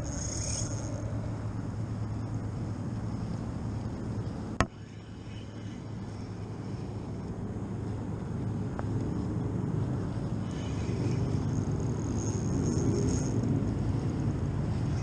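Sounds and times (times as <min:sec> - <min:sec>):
boat engines rumbling: 0:00.0 - 0:15.0.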